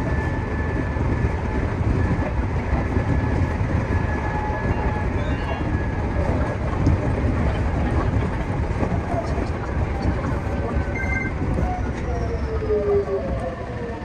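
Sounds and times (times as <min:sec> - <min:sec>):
electric train running rumble: 0:00.0 - 0:14.0.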